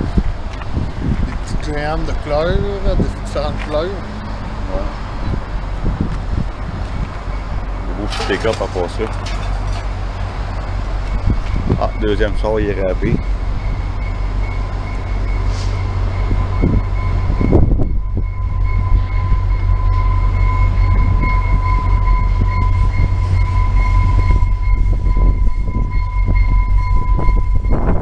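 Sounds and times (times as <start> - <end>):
diesel train rumbling: 0.0 - 28.0
steady high tone: 1.6 - 28.0.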